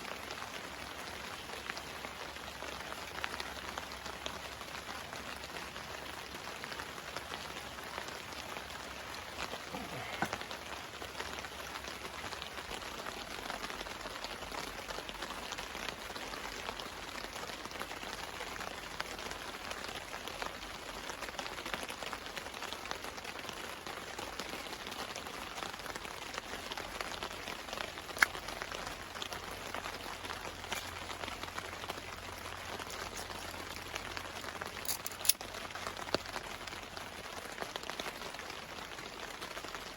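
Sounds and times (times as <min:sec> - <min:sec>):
rain falling on a tarp: 0:00.0 - 0:39.9.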